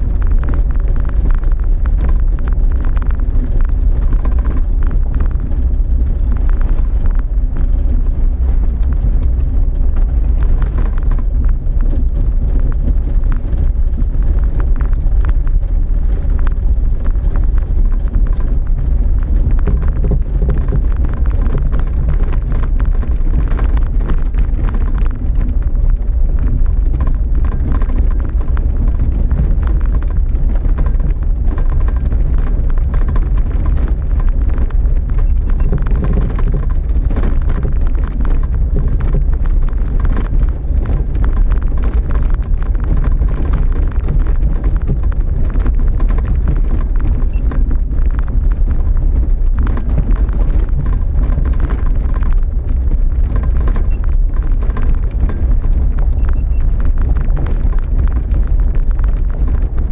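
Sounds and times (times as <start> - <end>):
knocks and rattles: 0.0 - 59.9
vehicle engine rumble: 0.0 - 59.9.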